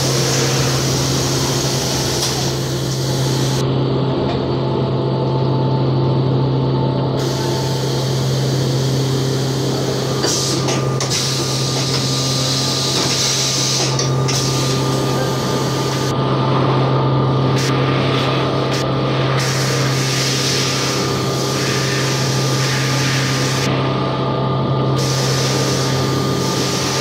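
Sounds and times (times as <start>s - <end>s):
coolant hiss and milling: 0.0s - 3.6s, 7.1s - 27.0s
machine hum: 0.0s - 27.0s.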